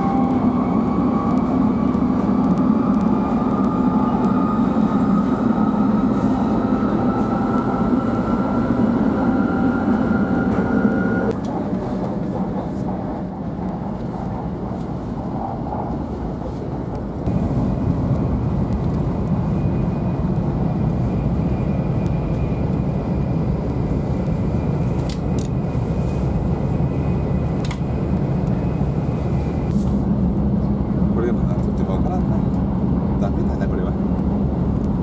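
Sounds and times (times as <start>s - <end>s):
train rumbling at speed: 0.0s - 35.0s.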